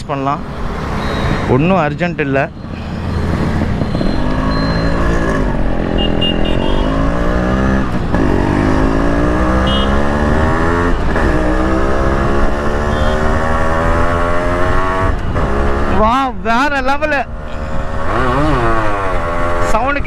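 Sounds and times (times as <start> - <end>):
motorcycle engine accelerating: 2.6 - 16.2, 17.3 - 20.0.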